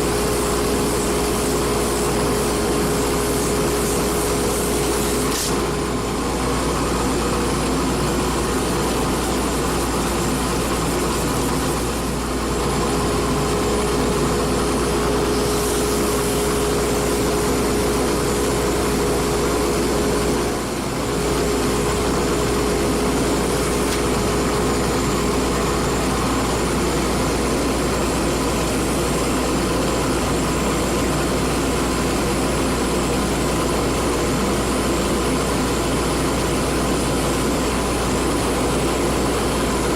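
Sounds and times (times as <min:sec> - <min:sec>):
wood lathe motor whine: 0:00.0 - 0:39.9.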